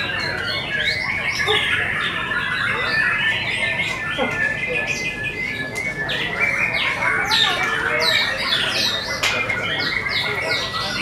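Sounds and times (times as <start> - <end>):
other birds singing: 0.0 - 11.0.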